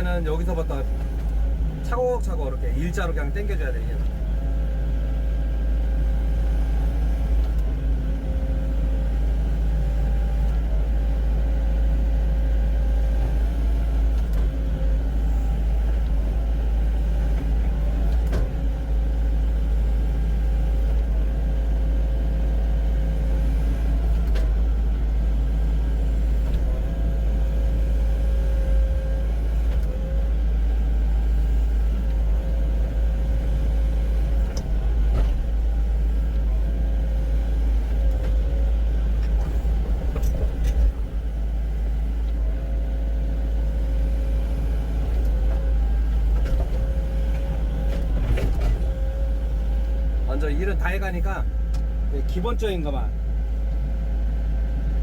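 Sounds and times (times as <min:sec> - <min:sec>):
engine whine: 0:00.0 - 0:55.0
excavator diesel engine rumbling: 0:00.0 - 0:55.0.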